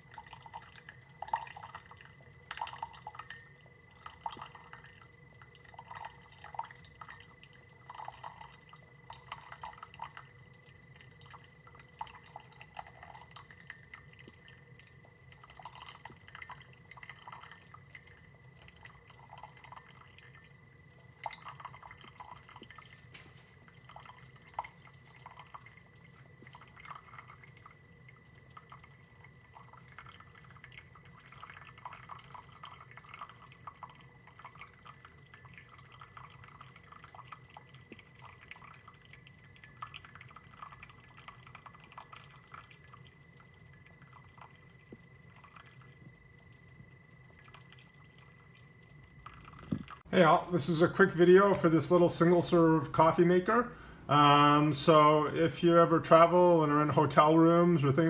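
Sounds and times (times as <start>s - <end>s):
coffee dripping into cup: 0.0s - 58.0s
faint steady hum: 0.0s - 58.0s.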